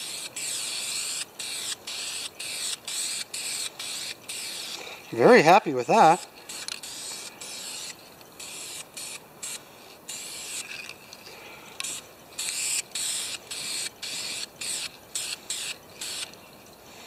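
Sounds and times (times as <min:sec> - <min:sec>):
spray paint can hissing: 0:00.0 - 0:04.8, 0:06.5 - 0:11.0, 0:11.8 - 0:16.4.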